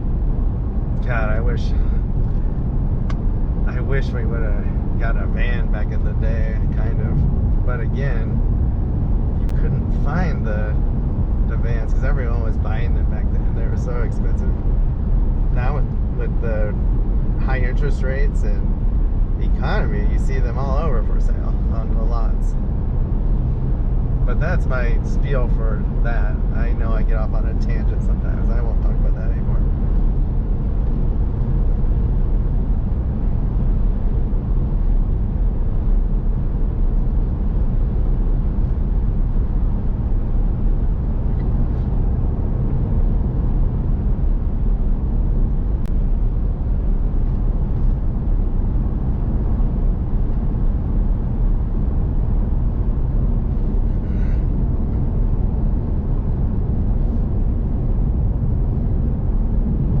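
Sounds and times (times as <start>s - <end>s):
engine and road noise in cab: 0.0s - 60.0s.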